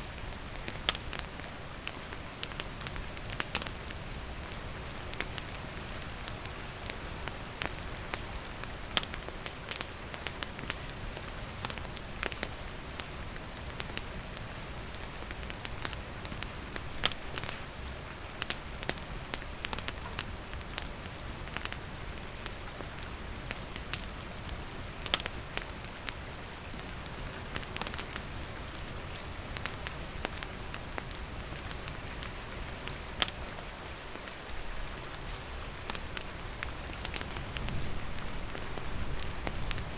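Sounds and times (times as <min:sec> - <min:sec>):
rain pattering: 0:00.0 - 0:39.9
wood fire crackling: 0:00.0 - 0:39.9.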